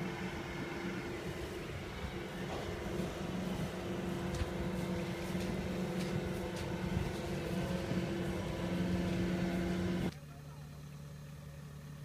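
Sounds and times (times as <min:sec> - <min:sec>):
combine harvester diesel engine: 0:00.0 - 0:12.0.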